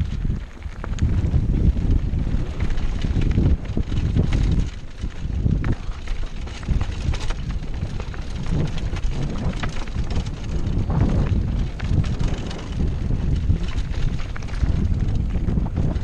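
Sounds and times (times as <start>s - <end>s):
bike clicks and rattles: 0.0s - 16.0s
wind rumble on microphone: 0.0s - 16.0s.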